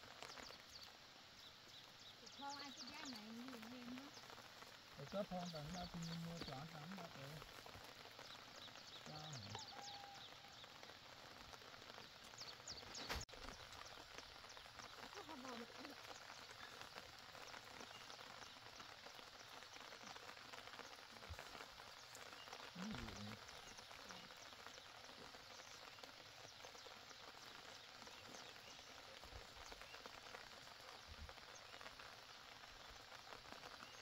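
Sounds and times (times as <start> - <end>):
light rain falling: 0.0 - 34.0.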